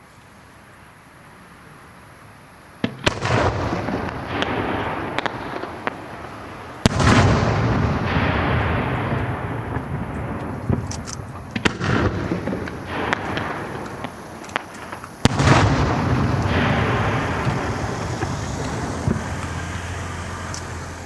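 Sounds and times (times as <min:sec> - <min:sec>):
firework shells bursting: 0:02.8 - 0:21.0
rolling rumble and crackle: 0:02.9 - 0:21.0.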